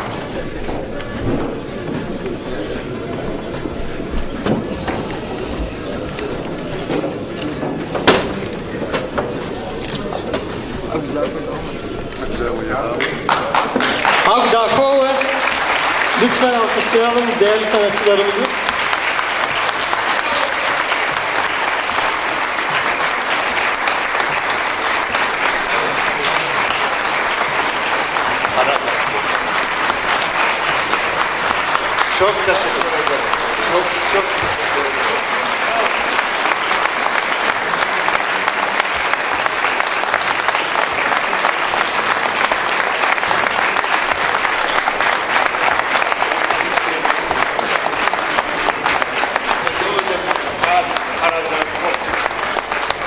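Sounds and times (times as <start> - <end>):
audience applauding: 0.0 - 53.0.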